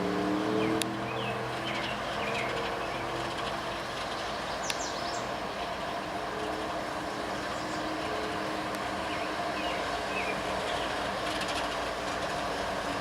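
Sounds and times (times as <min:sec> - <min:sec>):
locomotive engine drone: 0:00.0 - 0:13.0
train rolling noise: 0:00.0 - 0:13.0.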